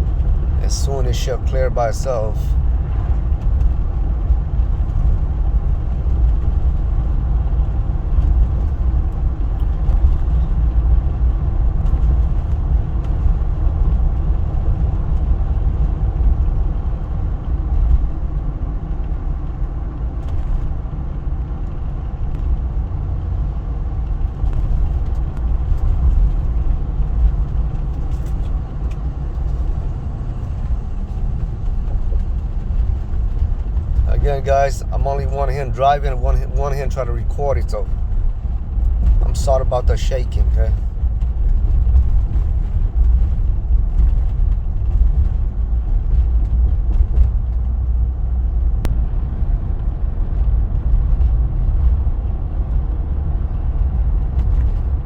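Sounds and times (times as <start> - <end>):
diesel engine rumble in cabin: 0.0 - 55.0
tyres on road: 0.0 - 55.0.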